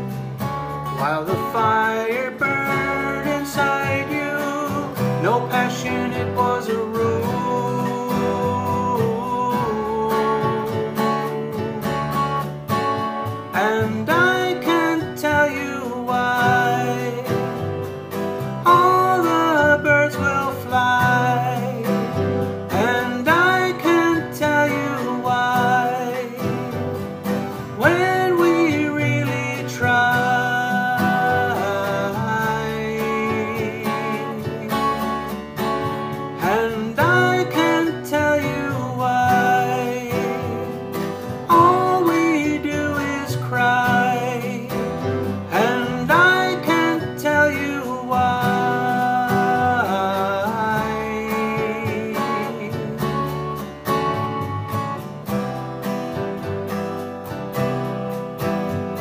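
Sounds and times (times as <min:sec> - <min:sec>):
acoustic guitar: 0:00.0 - 0:59.0
man singing: 0:00.9 - 0:12.5, 0:13.3 - 0:55.0.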